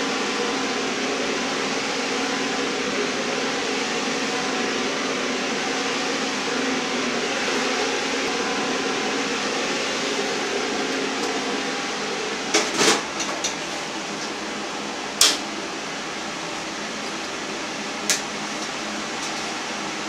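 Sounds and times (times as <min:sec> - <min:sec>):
electric fan noise: 0:00.0 - 0:20.0.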